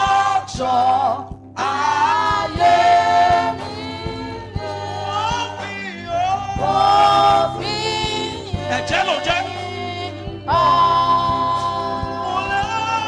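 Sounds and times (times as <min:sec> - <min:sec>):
congregation singing: 0:00.0 - 0:13.0
keyboard: 0:00.0 - 0:13.0.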